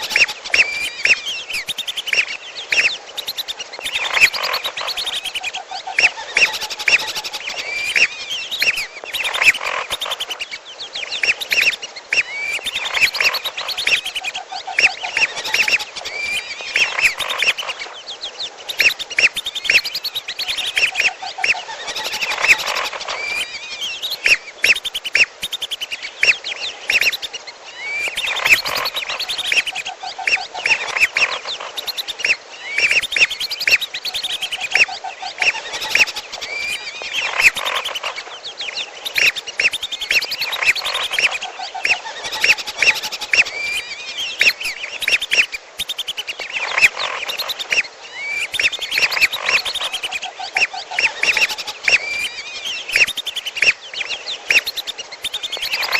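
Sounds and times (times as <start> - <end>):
ducks whistling: 0.0 - 17.9, 18.6 - 55.9.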